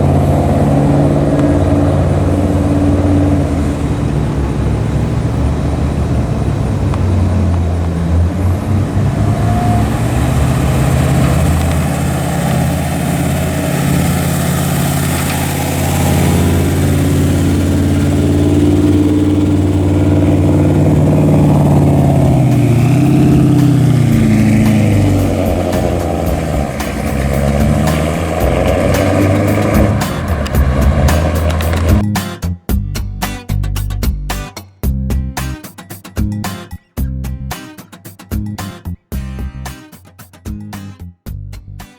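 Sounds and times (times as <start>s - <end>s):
engine deep exhaust rumble: 0.0s - 34.3s.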